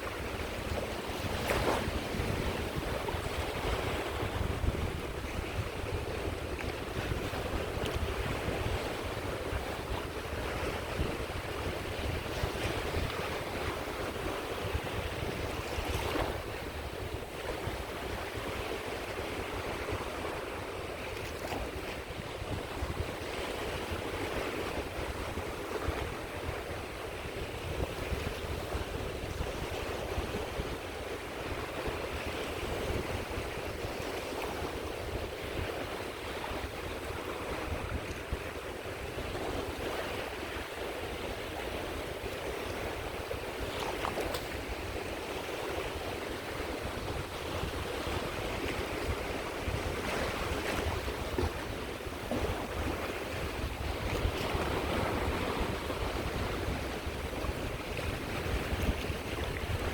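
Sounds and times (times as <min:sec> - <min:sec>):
waves washing onto shore: 0:00.0 - 0:59.9
wind rumble on microphone: 0:00.0 - 0:59.9.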